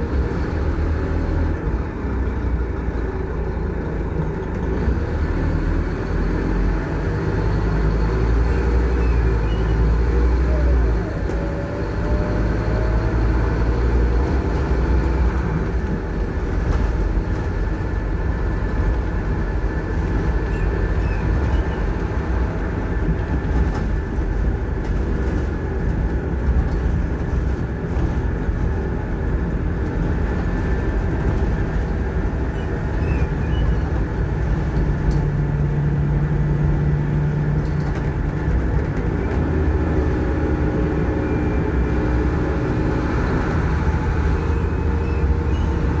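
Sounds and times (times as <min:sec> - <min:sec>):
bus diesel engine running: 0:00.0 - 0:46.0
road and rolling noise: 0:00.0 - 0:46.0.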